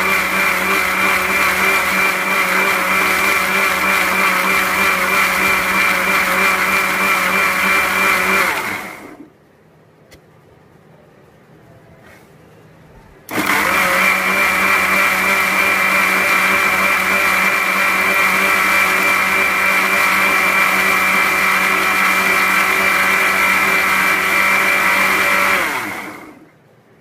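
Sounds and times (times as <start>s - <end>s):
mixer grinder motor whining: 0.0s - 9.3s, 13.3s - 26.5s.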